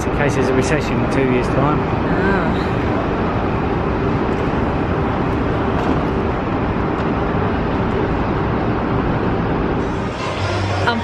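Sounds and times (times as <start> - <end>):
faint steady hum: 0.0 - 11.0
tram rumbling along guideway: 0.0 - 11.0.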